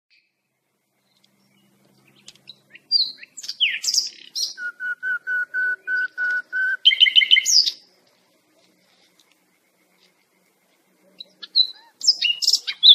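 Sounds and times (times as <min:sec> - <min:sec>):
songbird singing: 0:00.1 - 0:12.9.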